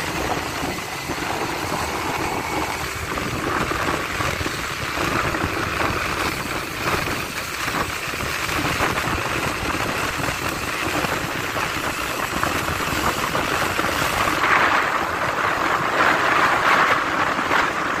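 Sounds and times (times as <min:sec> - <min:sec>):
motorcycle engine: 0:00.0 - 0:18.0
tyres on wet pavement: 0:00.0 - 0:18.0
wind rushing: 0:00.0 - 0:18.0.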